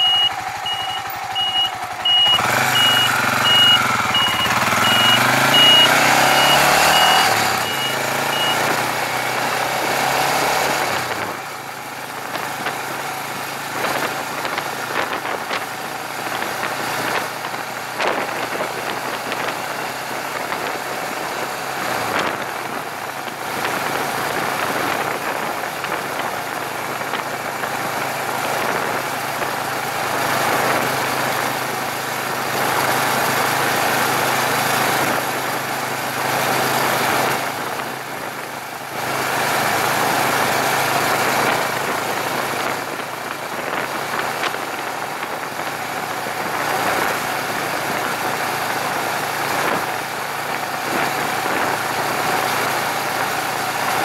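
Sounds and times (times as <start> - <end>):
motorcycle engine: 0.0 - 54.0
wind and road noise: 0.0 - 54.0.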